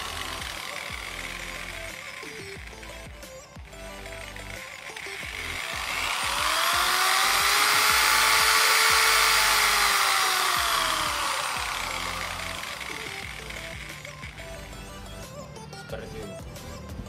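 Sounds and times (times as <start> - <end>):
electric drill motor whine: 0.0 - 15.7.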